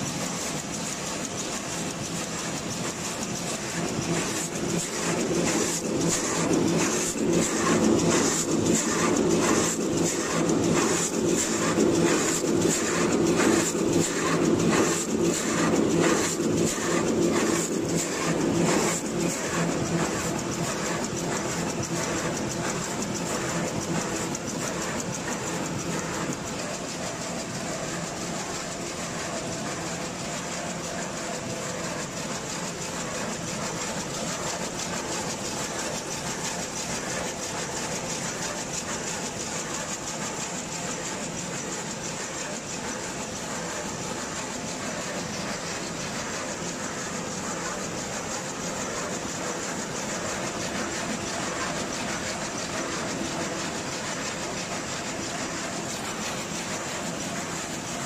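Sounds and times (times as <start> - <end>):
loom clattering: 0.0 - 58.0.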